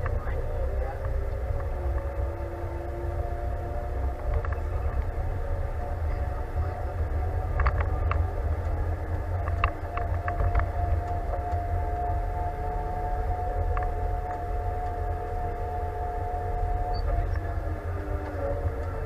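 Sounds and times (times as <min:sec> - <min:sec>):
drivetrain whine: 0:00.0 - 0:19.0
tractor diesel engine rumbling: 0:00.0 - 0:19.0.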